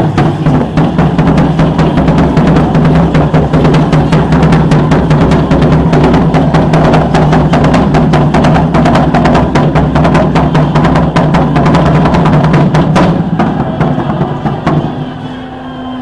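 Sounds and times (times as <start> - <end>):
parade drum percussion: 0.0 - 16.0.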